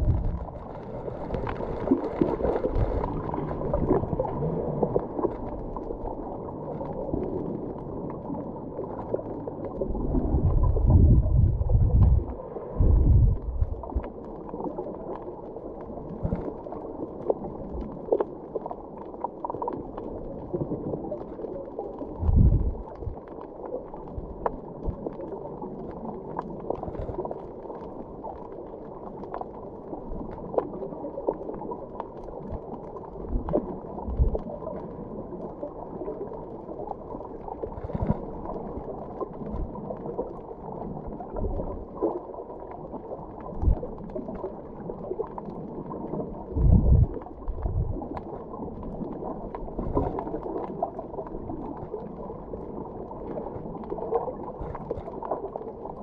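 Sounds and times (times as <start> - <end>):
muffled underwater wash: 0.0 - 56.0.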